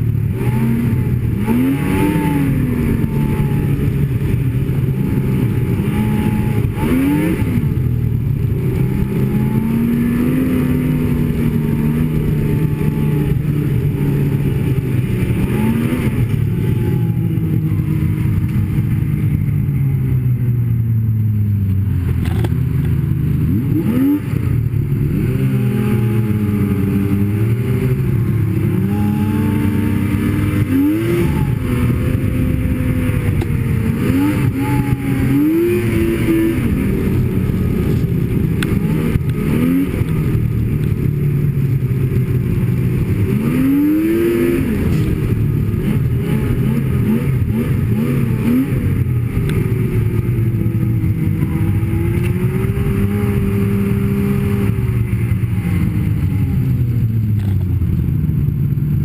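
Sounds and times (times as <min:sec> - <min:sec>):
snowmobile engine revving: 0:00.0 - 0:19.9, 0:22.0 - 0:57.6.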